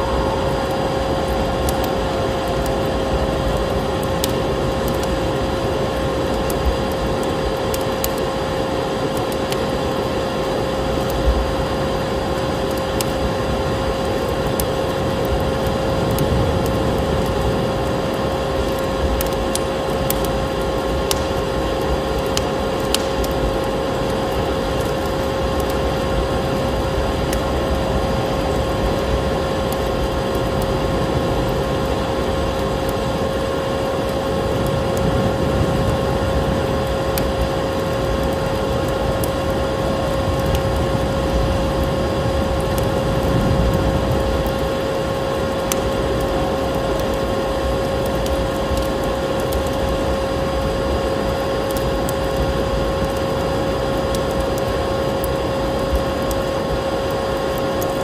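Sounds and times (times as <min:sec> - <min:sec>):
fireplace fire crackling: 0:00.0 - 0:58.0
snowstorm wind: 0:00.0 - 0:58.0.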